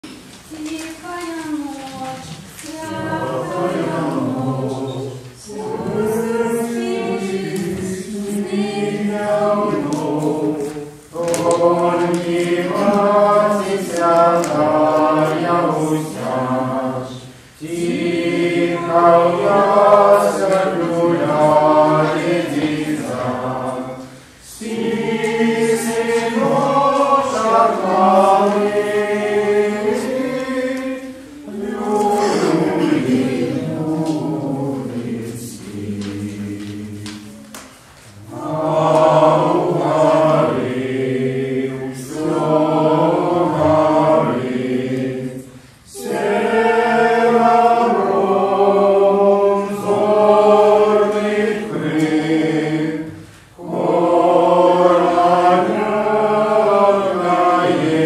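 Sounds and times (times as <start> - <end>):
choir singing unaccompanied: 1.6 - 58.0.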